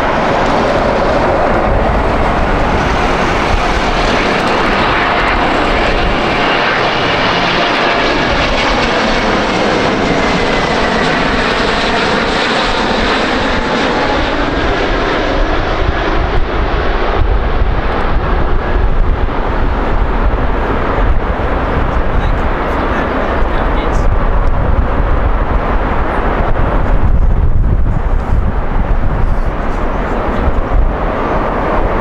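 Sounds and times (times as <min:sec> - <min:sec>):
deep rumble: 0:00.0 - 0:32.0
jet airliner passing: 0:00.0 - 0:32.0.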